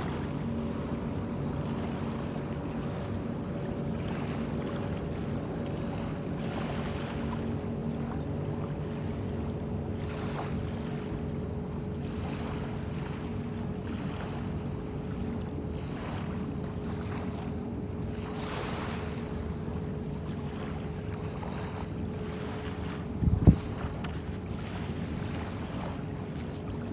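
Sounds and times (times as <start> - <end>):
waves washing in: 0.0 - 9.2, 12.0 - 26.9
low engine hum: 0.0 - 26.9.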